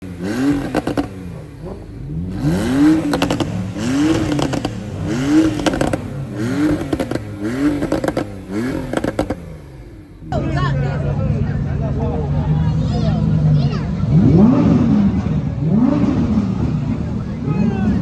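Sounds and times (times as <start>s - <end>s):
car engine revving: 0.0s - 18.0s
exhaust crackles: 0.0s - 18.0s.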